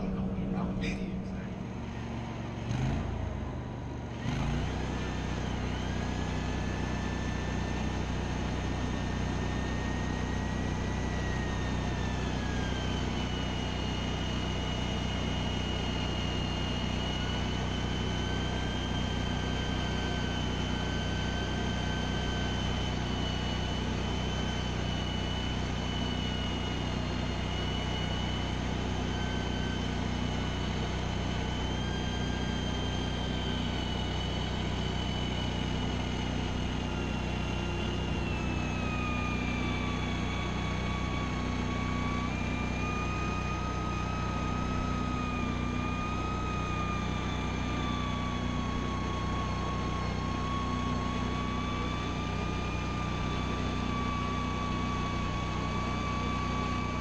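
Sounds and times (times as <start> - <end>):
engine idling: 0.0 - 57.0
high mechanical winch whine: 0.0 - 57.0.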